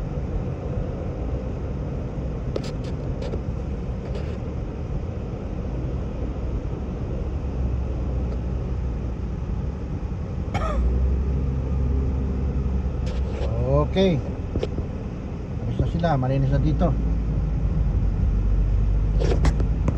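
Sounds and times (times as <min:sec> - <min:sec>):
car road and engine rumble: 0:00.0 - 0:19.9.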